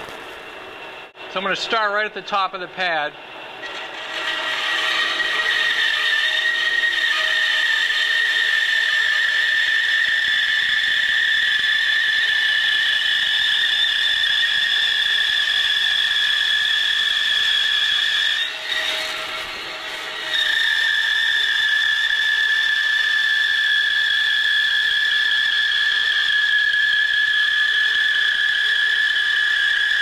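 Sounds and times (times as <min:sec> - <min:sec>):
bandsaw whining through wood: 0:00.0 - 0:30.0.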